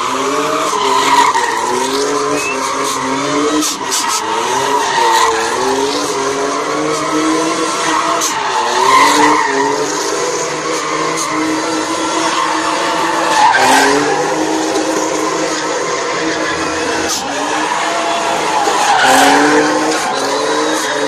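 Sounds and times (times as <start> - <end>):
car engine revving: 0.0 - 21.0
tyres screeching: 0.0 - 21.0.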